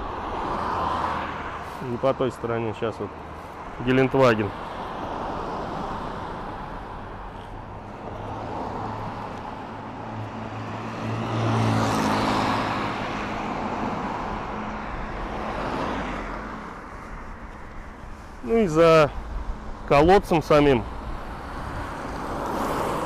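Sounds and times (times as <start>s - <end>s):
cars driving past: 0.0s - 23.0s.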